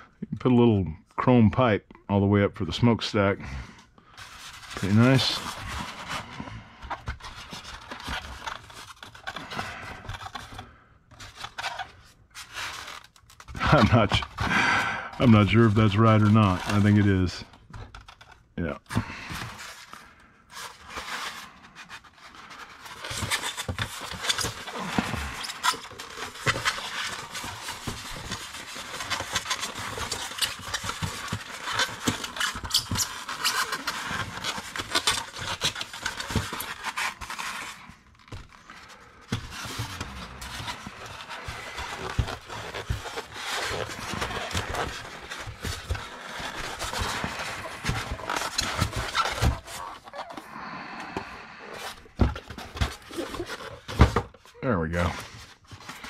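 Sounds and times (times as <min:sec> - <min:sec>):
styrofoam rubbing and squeaking: 0:04.1 - 0:50.5, 0:51.6 - 0:56.0.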